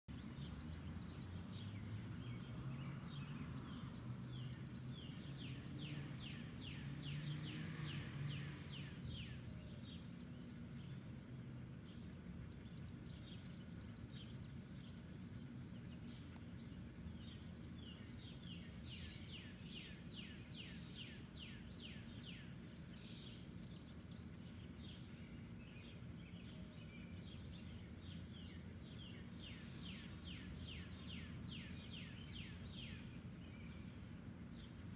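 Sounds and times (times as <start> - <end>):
songbird singing falling notes: 0.1 - 34.9
steady low hum: 0.1 - 34.9.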